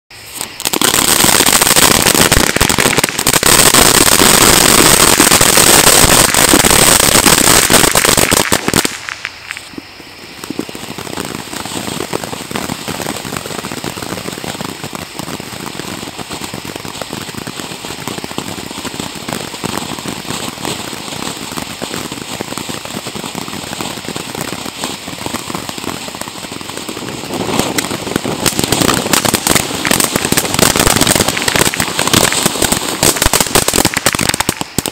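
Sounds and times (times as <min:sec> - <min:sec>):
firework fountain hissing and crackling: 0:00.1 - 0:34.9.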